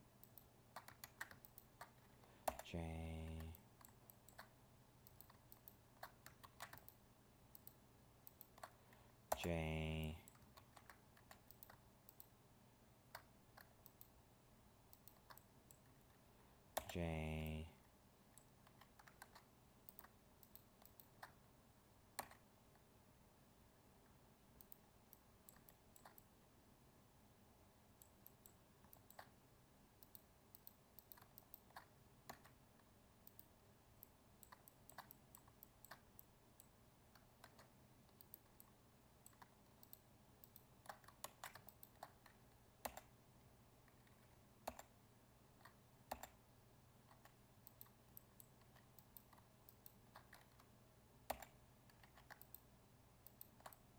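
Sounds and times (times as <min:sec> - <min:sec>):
mouse and keyboard clicks: 0:00.2 - 0:09.4, 0:10.3 - 0:12.4, 0:13.1 - 0:14.2, 0:14.9 - 0:16.9, 0:18.4 - 0:21.4, 0:22.1 - 0:22.8, 0:24.0 - 0:26.3, 0:28.0 - 0:29.4, 0:30.0 - 0:43.2, 0:43.8 - 0:53.9.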